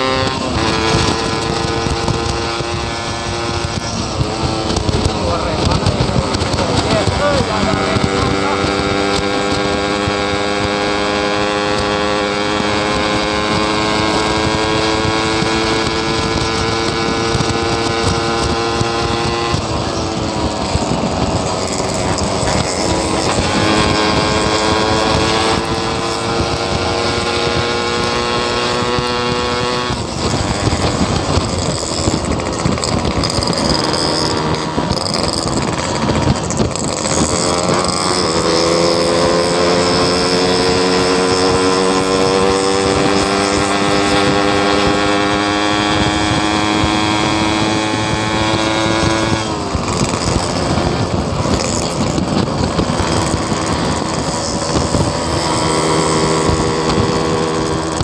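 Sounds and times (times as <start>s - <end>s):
two-stroke motorcycle engine: 0.0s - 58.0s.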